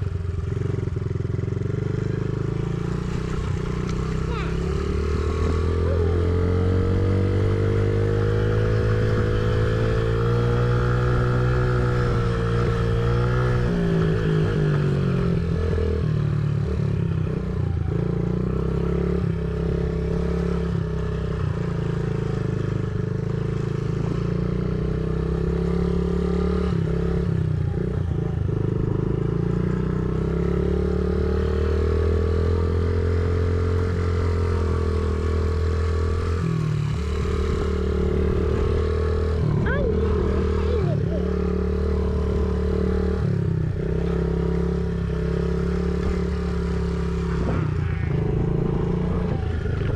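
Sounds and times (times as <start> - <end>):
small motorcycle engine revving: 0.5 - 49.9.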